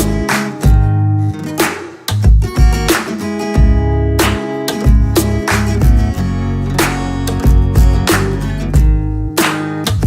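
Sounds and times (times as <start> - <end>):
acoustic guitar music with beat: 0.0 - 10.0.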